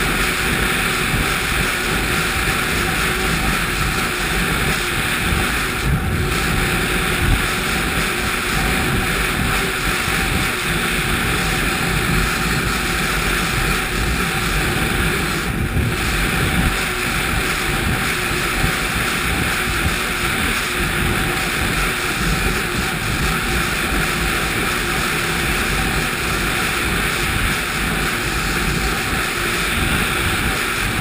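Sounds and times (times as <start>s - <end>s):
snowmobile engine running: 0.0s - 31.0s
wind rushing over microphone: 0.0s - 31.0s.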